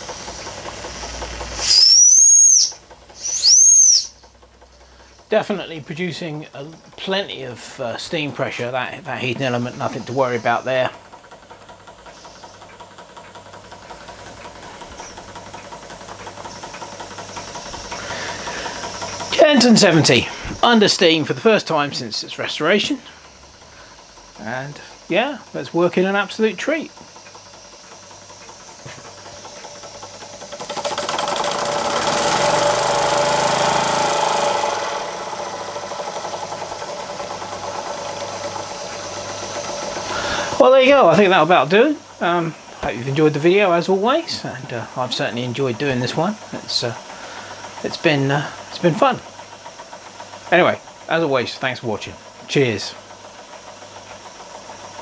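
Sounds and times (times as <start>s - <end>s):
steam hissing: 0.0s - 6.3s, 13.7s - 55.0s
model steam engine running: 0.0s - 55.0s.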